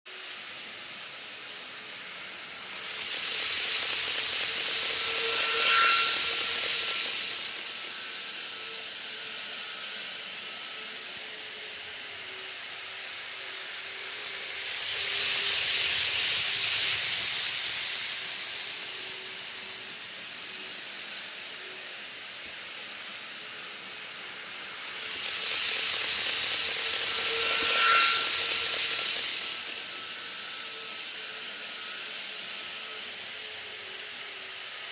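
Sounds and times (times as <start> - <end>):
faint steady whine: 0.1 - 34.9
steady hiss: 0.1 - 34.9
model train passing: 2.0 - 34.9.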